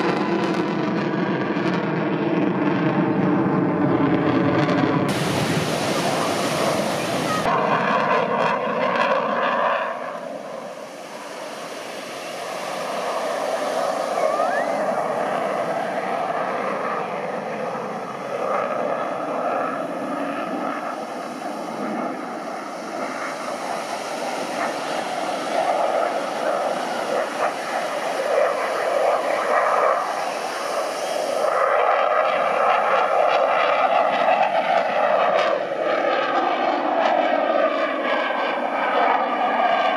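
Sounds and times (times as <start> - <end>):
airplane engine drone overhead: 0.0 - 39.9
wind noise: 0.0 - 39.9.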